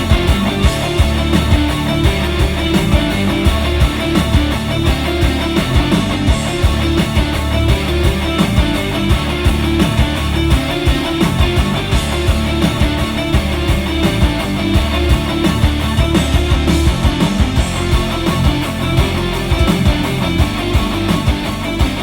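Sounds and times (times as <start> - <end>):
guitar rock music on car stereo: 0.0 - 22.0.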